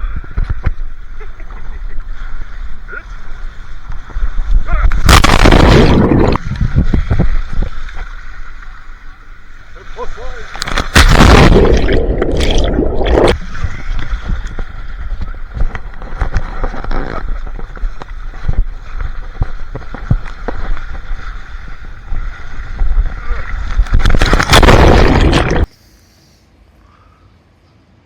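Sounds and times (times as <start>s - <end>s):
water rushing and sloshing: 0.4s - 25.7s
water splashing: 0.5s - 25.7s.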